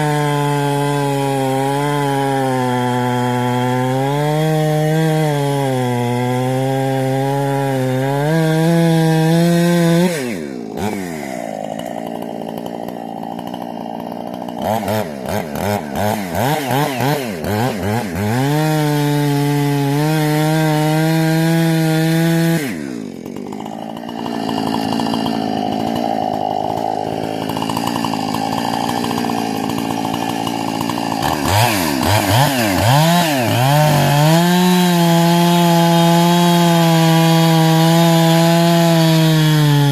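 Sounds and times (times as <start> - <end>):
chainsaw cutting at full throttle: 0.0 - 39.9.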